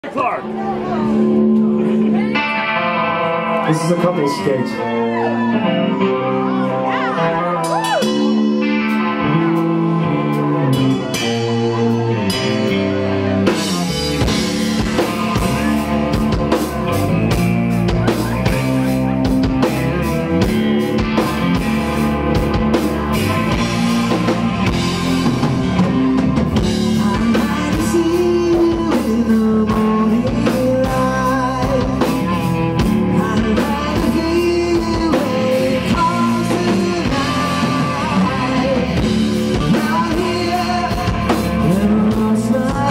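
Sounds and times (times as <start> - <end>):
electric bass: 0.0 - 42.9
electric guitar: 0.0 - 42.9
drum kit: 6.9 - 42.9.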